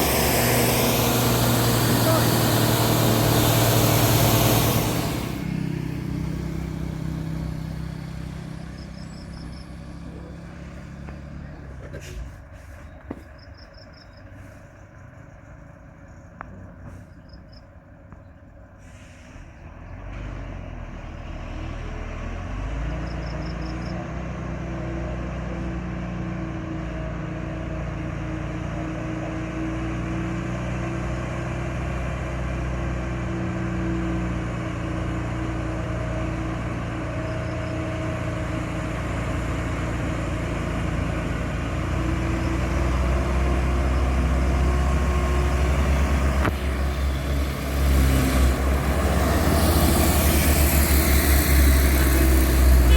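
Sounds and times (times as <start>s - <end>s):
truck engine under load: 0.0s - 52.9s.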